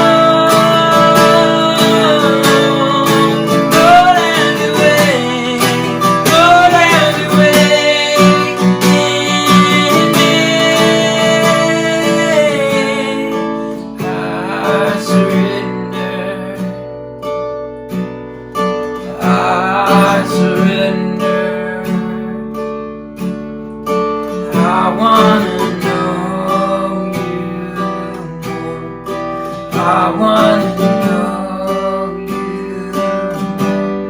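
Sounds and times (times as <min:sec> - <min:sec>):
acoustic guitar strumming chords: 0:00.0 - 0:34.0.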